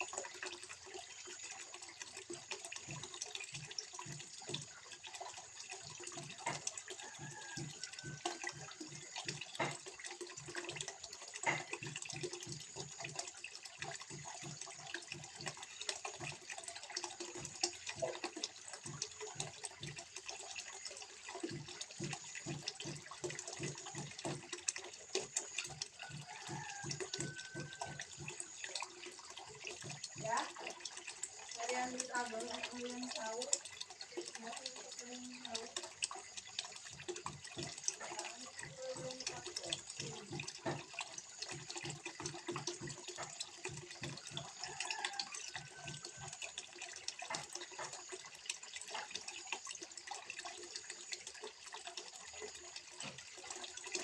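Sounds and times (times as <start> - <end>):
low pulsing gurgle: 0.0 - 54.0
water trickling into pond: 0.0 - 54.0.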